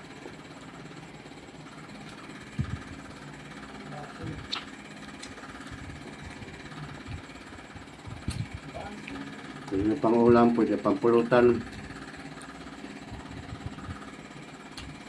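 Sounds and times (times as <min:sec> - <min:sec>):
low mechanical buzz: 0:00.0 - 0:15.0.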